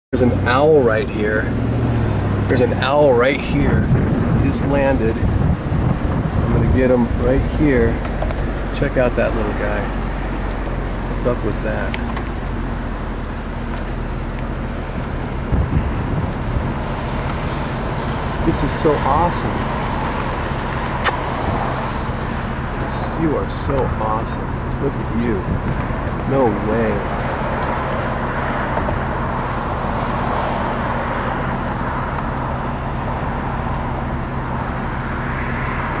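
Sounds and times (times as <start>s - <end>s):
car engine hum: 0.1s - 36.0s
road traffic noise: 0.1s - 36.0s
low bumps: 0.2s - 36.0s.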